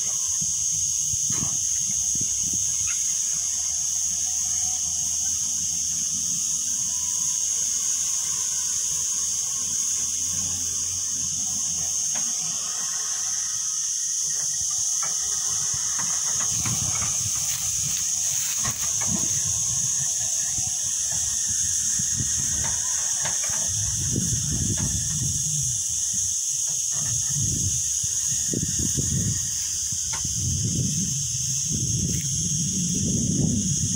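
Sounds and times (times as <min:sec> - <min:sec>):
distant diesel engine hum: 0:00.0 - 0:33.7
high-pitched buzzing hiss: 0:00.0 - 0:33.9.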